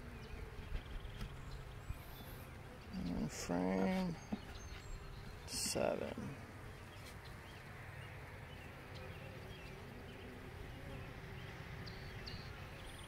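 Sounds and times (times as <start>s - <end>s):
honeybees humming: 0.0s - 13.0s.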